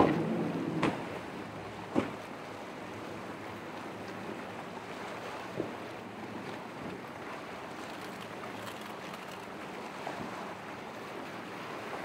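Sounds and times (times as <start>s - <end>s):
faint outboard motors running: 0.0s - 12.0s
surf and waves: 0.0s - 12.0s.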